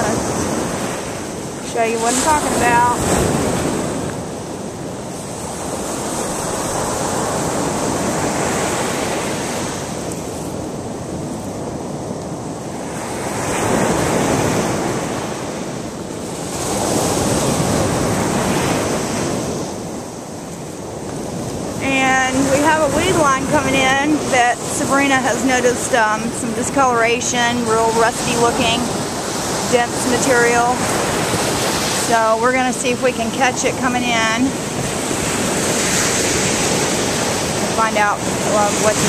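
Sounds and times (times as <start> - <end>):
surf washing onto sand: 0.0 - 39.0
wind on microphone: 0.0 - 39.0.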